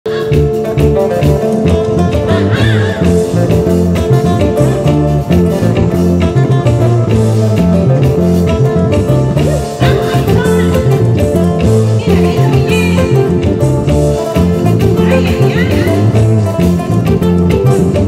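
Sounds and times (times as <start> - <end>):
electric guitars: 0.0 - 18.0
live band music: 0.0 - 18.0
rhythmic bass line: 0.0 - 18.0.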